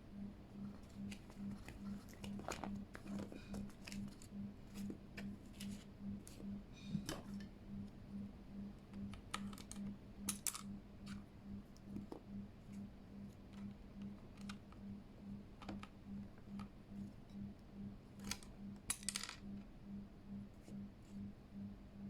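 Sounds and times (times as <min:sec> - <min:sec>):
faint pulsing low hum: 0:00.0 - 0:22.0.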